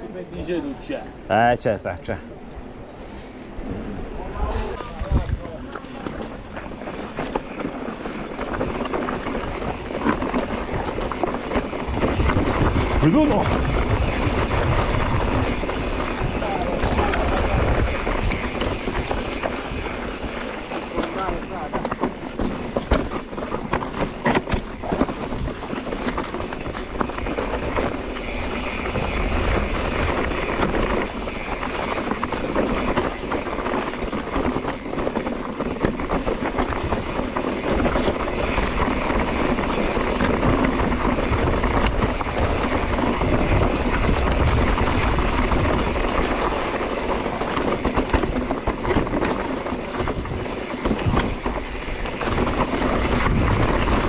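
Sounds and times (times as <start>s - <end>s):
mountain bike rolling and rattling: 0.0s - 54.0s
wind rushing over microphone: 0.0s - 54.0s.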